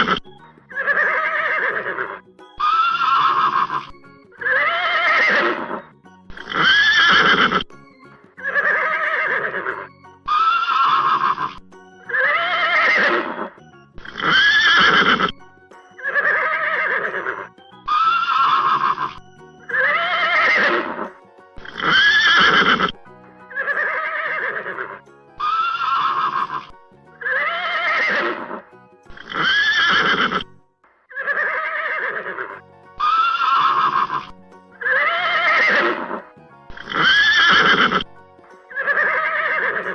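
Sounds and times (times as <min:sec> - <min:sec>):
horse whinnying: 0:00.0 - 0:07.7, 0:08.4 - 0:15.4, 0:16.0 - 0:38.1, 0:38.7 - 0:39.9.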